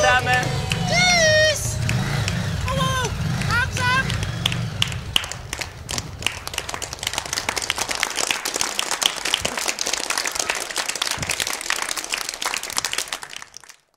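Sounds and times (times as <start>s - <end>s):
motorcycle engine rumble: 0.0s - 13.3s
audience clapping: 0.0s - 13.9s.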